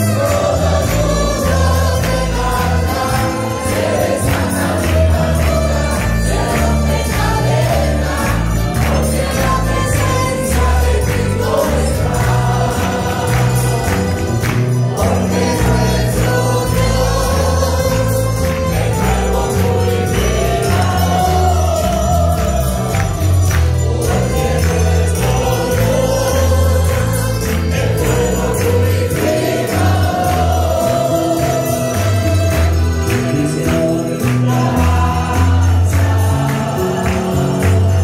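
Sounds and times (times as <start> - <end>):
choir and congregation singing: 0.0 - 38.0
guitars and mandolins: 0.0 - 38.0
pulsing bass line: 0.0 - 38.0.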